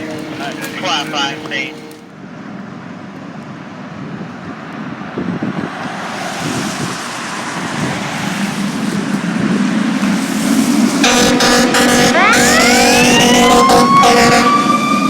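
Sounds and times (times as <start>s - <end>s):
fire engine engine: 0.0s - 15.0s
road noise: 0.0s - 15.0s.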